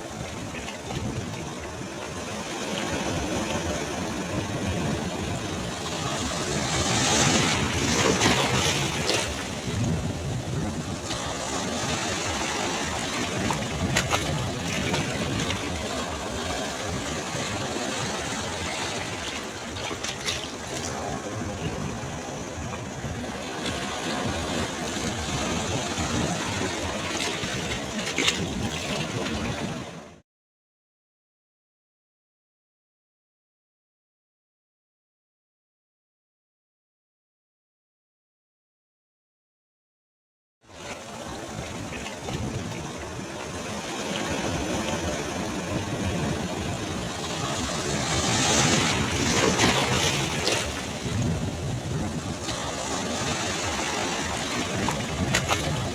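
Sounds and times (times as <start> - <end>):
sea waves washing on beach: 0.0 - 30.2, 40.7 - 55.9.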